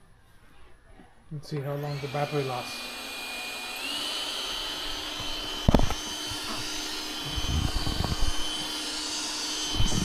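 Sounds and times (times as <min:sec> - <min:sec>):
robot vacuum running: 0:01.6 - 0:10.0.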